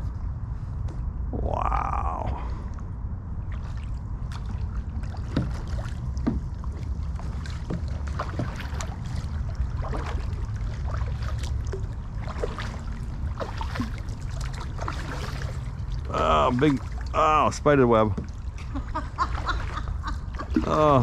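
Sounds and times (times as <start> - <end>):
steady low rumble: 0.0 - 21.0
paddle splashing in water: 3.4 - 21.0.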